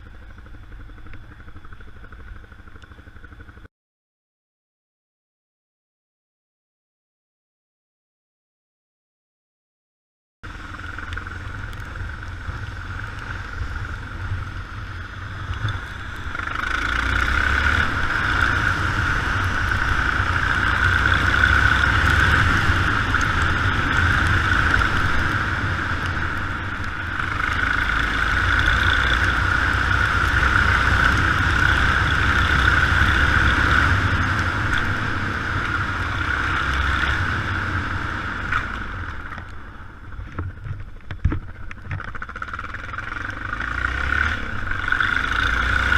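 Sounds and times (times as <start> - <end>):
motorcycle engine running: 0.0 - 3.7, 10.4 - 45.9.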